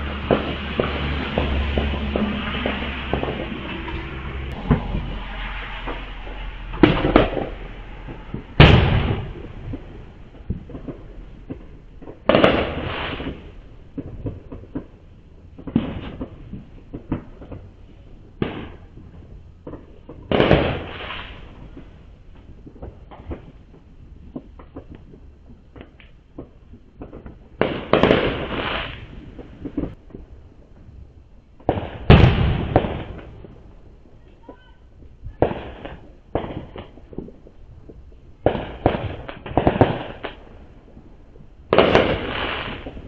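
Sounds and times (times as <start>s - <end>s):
fireworks booming: 0.0s - 43.0s
fireworks popping and crackling: 0.0s - 43.0s.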